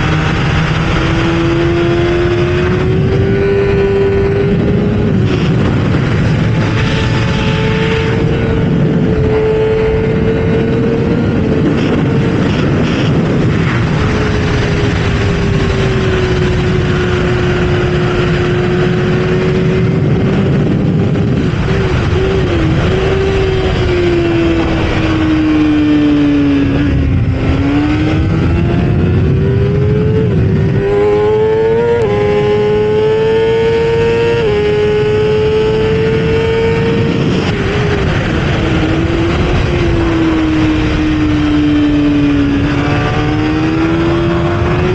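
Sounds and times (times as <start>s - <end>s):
motorcycle engine running hard: 0.0s - 44.9s
wind rush: 0.0s - 44.9s.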